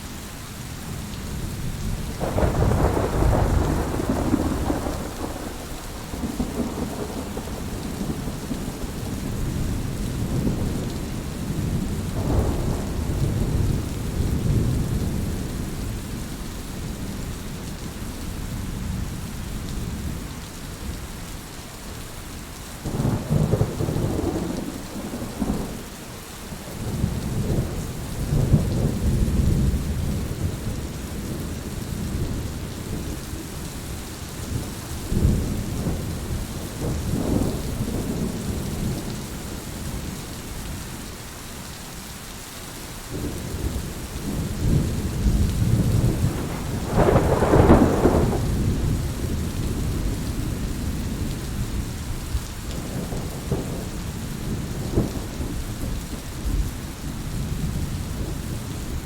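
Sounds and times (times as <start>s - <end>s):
heavy rain: 0.0s - 59.0s
low rolls of thunder: 1.0s - 21.0s, 22.8s - 41.0s, 43.1s - 59.0s.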